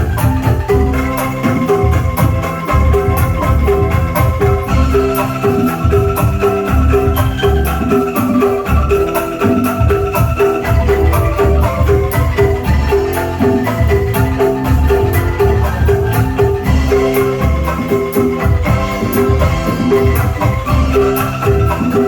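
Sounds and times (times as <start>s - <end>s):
bamboo tones melody: 0.0s - 22.0s.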